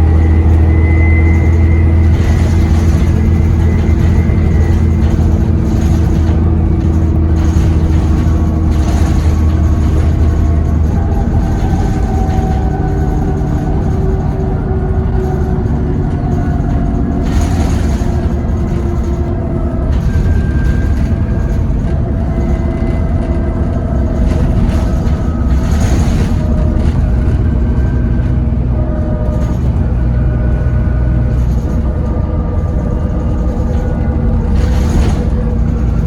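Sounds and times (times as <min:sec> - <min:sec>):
bus diesel engine running: 0:00.0 - 0:36.0
road noise rumble: 0:00.0 - 0:36.0.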